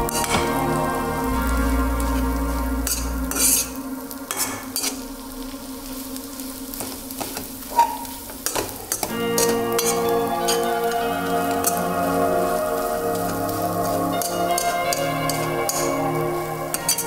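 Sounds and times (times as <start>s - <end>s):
light sizzle: 0.0s - 17.0s.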